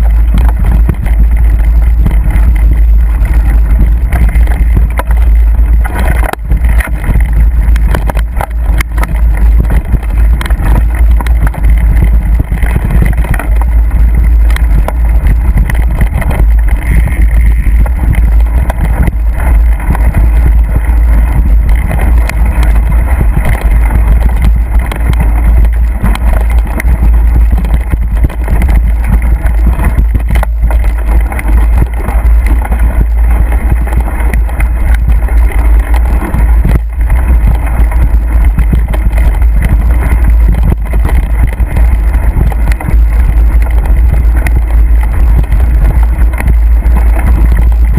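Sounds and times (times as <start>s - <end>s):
bike knocking and rattling: 0.0s - 47.9s
wind buffeting microphone: 0.0s - 47.9s.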